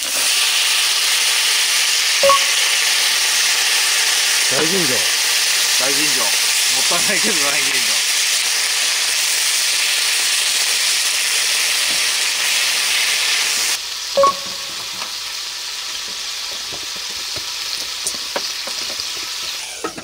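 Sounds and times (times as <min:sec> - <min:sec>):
meat sizzling in a frying pan: 0:00.0 - 0:14.2, 0:14.8 - 0:20.0.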